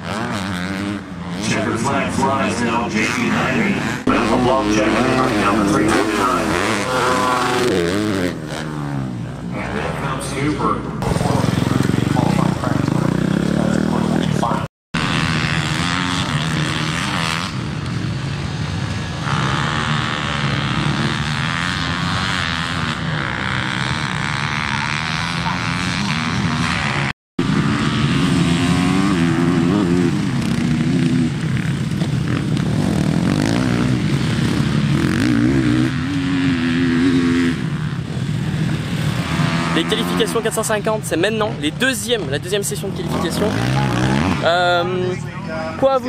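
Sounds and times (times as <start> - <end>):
motocross bike engines revving: 0.0 - 46.0.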